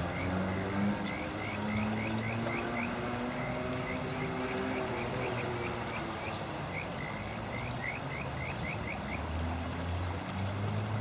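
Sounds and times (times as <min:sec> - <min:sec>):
frog chirping: 0:00.0 - 0:09.2.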